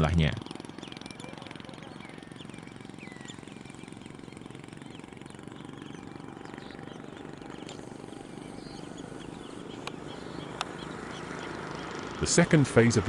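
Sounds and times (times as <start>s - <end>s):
motor running with rapid pulsing: 0.0s - 13.0s
faint bird chirps: 0.4s - 12.2s.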